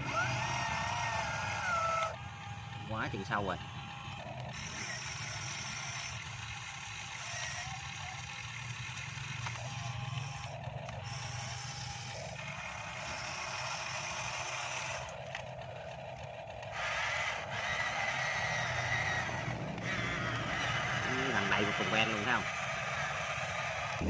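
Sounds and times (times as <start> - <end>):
electric motors whirring: 0.0 - 24.0.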